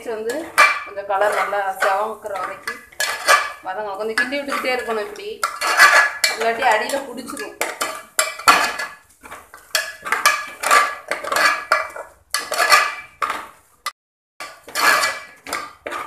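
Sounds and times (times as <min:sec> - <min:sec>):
spoon scraping a pot: 0:00.0 - 0:13.6, 0:14.4 - 0:16.0.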